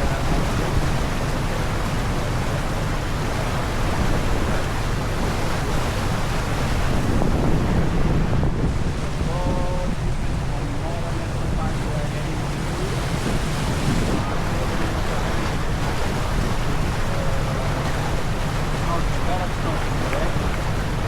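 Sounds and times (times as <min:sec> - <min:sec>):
wind noise on microphone: 0:00.0 - 0:18.7
rushing sea water: 0:00.0 - 0:21.0.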